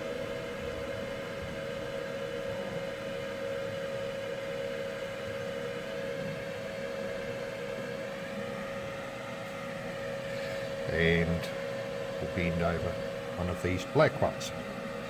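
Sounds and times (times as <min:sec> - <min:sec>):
extractor fan humming: 0:00.0 - 0:15.0.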